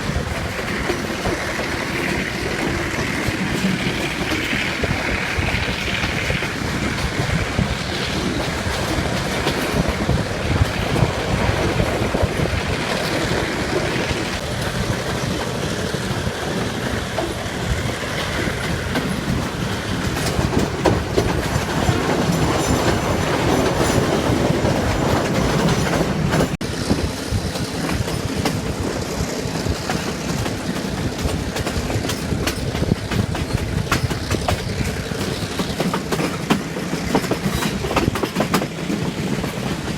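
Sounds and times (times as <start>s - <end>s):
train rumbling: 0.0s - 39.9s
wheels clacking over rail joints: 0.0s - 39.9s.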